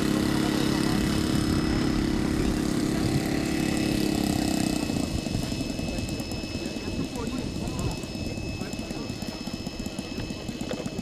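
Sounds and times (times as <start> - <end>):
model airplane engine running: 0.0 - 11.0.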